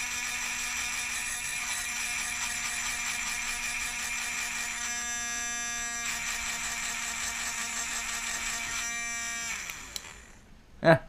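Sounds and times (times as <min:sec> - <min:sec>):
electric grinder motor whining: 0:00.0 - 0:10.4.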